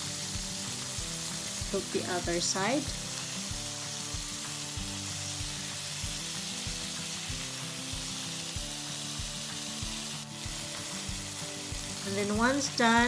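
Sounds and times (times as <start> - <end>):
chicken frying in oil: 0.0 - 13.0
soft background music: 0.0 - 13.0.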